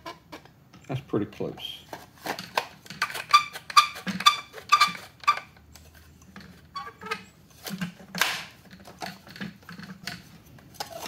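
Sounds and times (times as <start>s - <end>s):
plastic parts clicking and knocking: 1.8s - 11.0s
plastic scraping: 1.8s - 11.0s.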